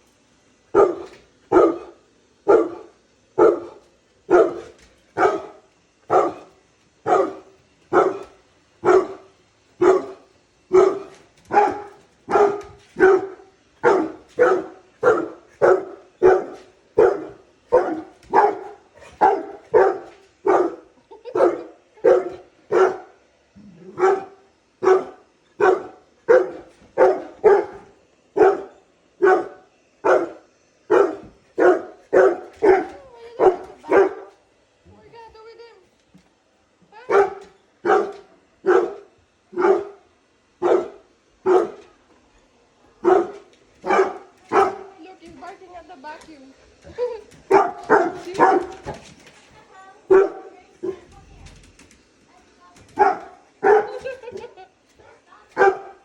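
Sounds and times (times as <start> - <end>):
dog barking: 0.7 - 23.2, 23.8 - 34.4, 37.0 - 41.9, 43.0 - 45.0, 46.9 - 49.1, 50.1 - 51.1, 52.9 - 56.0.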